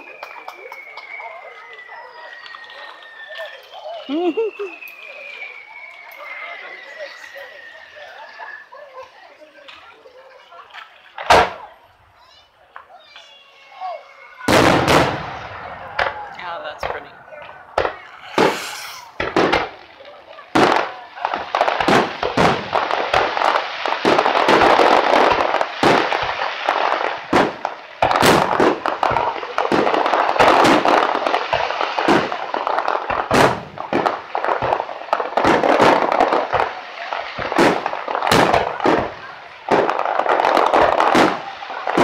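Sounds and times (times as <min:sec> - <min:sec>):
continuous dense noise: 0:00.0 - 0:42.0
fireworks bangs: 0:00.0 - 0:42.0.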